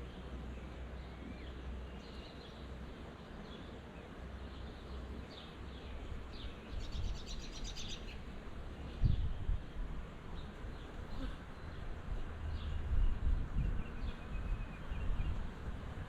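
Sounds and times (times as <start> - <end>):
small birds chirping: 0.0 - 15.8.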